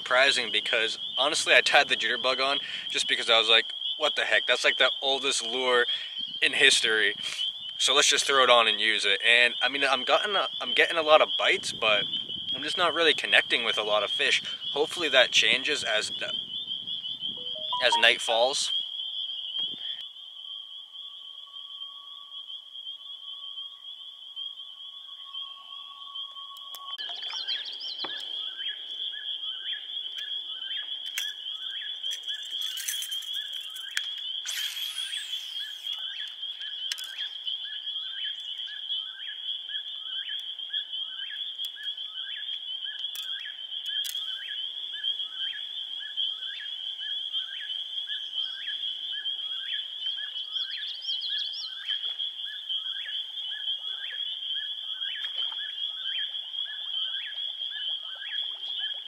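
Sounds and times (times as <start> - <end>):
frogs calling in chorus: 0.0 - 20.2, 22.3 - 59.0.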